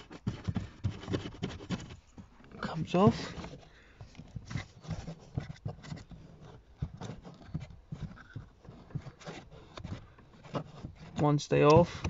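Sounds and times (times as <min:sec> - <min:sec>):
fingers scratching plastic trim: 0:00.0 - 0:02.0, 0:03.0 - 0:12.0.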